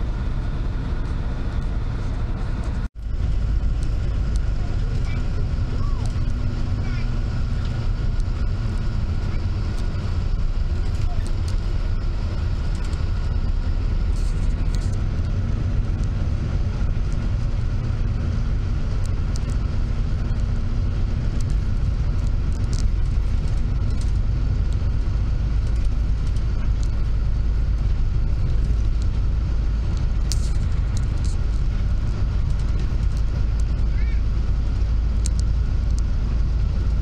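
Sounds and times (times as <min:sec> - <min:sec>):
engine and tyre rumble: 0:00.0 - 0:37.0
light rattles and clicks: 0:01.0 - 0:37.0.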